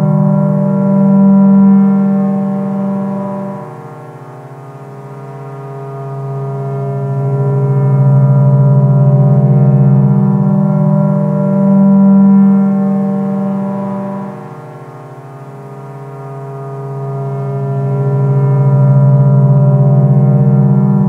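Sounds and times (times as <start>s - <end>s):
low synthesizer drone: 0.0s - 21.0s.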